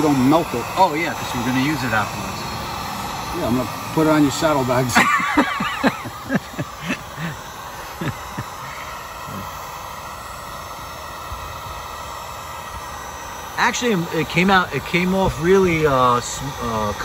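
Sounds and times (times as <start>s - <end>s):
heat gun blowing: 0.0s - 17.0s.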